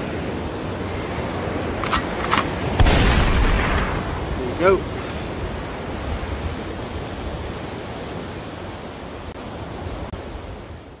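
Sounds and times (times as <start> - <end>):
surf rushing with low rumble: 0.0 - 11.0.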